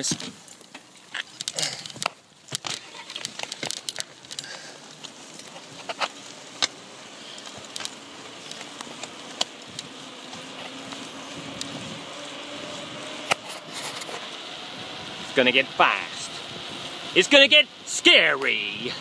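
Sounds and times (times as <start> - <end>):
bicycle tyre and wind noise: 0.0 - 19.0
faint rising hum: 3.4 - 19.0.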